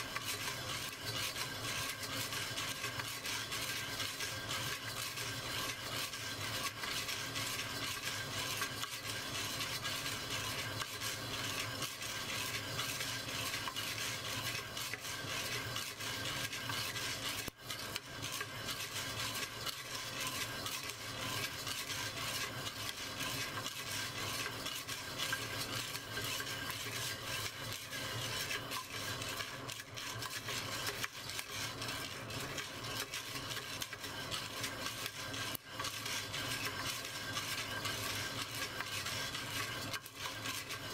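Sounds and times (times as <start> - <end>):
coffee beans rattling in clay pot: 0.0 - 40.9.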